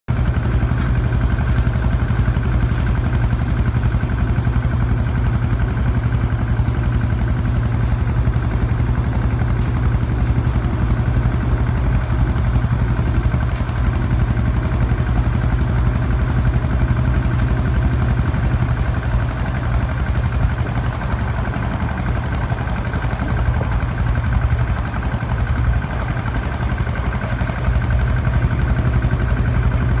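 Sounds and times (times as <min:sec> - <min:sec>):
tractor diesel engine running: 0:00.1 - 0:30.0.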